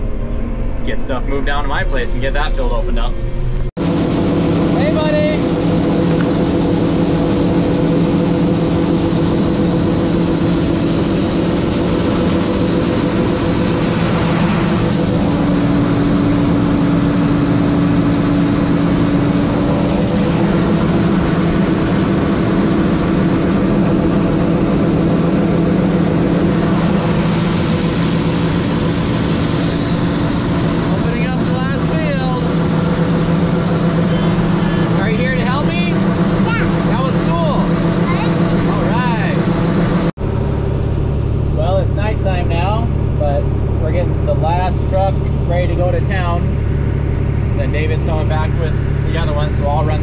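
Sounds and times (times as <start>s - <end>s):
diesel engine humming: 0.0s - 50.0s.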